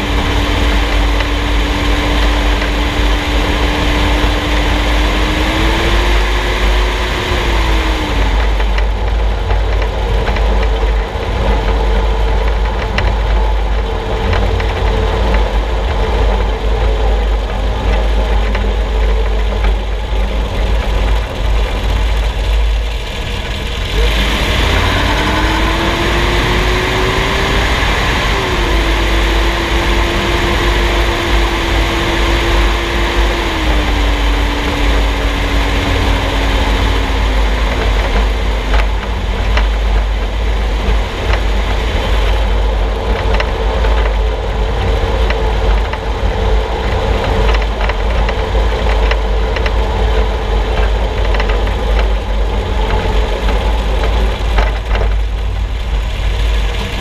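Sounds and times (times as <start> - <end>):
road and wind noise: 0.0 - 57.0
sharp clicks and knocks: 0.0 - 57.0.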